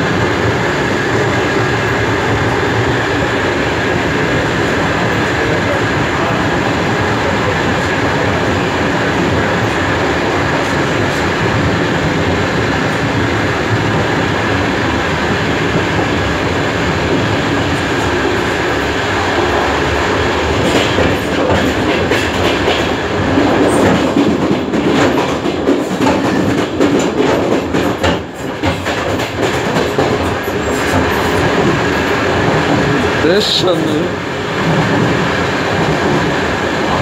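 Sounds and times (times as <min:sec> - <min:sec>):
train rumbling at speed: 0:00.0 - 0:37.0.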